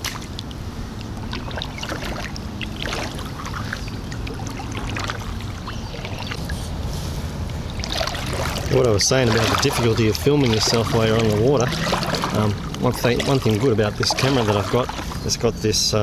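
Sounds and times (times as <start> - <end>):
water splashing and dripping: 0.0 - 6.6, 7.4 - 15.5
kayak paddle strokes in water: 0.0 - 15.5
steady low rumble: 0.0 - 16.0.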